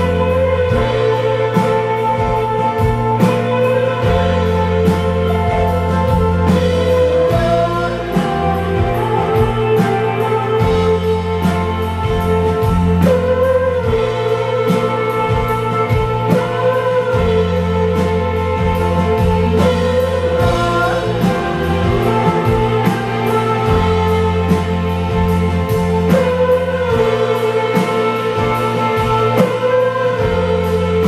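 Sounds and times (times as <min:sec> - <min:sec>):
bass: 0:00.0 - 0:31.0
drums and cymbals: 0:00.0 - 0:31.0
electric guitars: 0:00.0 - 0:31.0.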